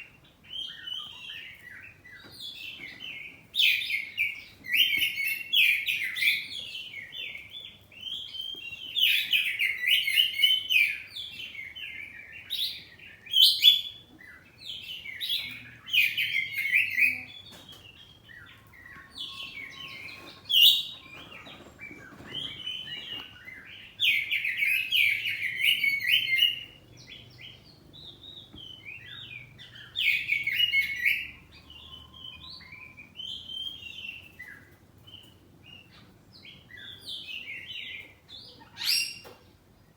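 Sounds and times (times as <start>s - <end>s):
soft bird twittering: 0.0s - 39.5s.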